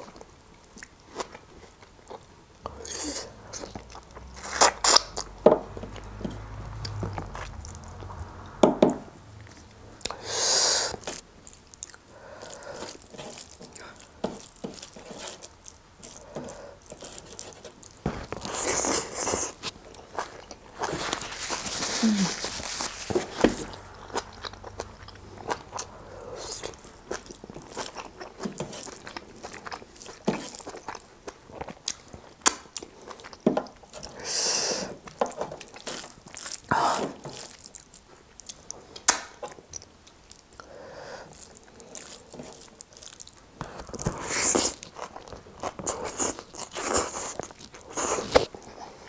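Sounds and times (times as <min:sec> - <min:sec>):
chewing and biting: 0:00.0 - 0:08.0, 0:10.9 - 0:34.2, 0:34.8 - 0:49.0.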